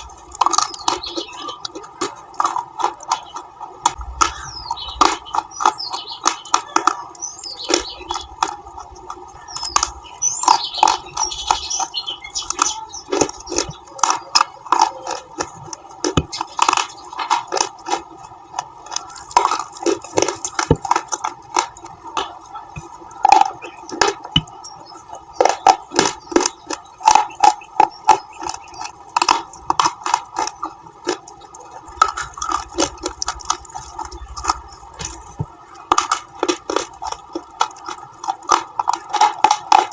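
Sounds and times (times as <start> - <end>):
chewing: 0.0 - 39.9
crunching bites into hard bars: 0.0 - 39.9.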